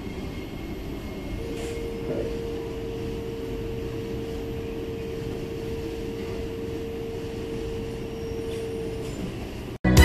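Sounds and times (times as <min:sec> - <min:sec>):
train carriage rumble: 0:00.0 - 0:09.8.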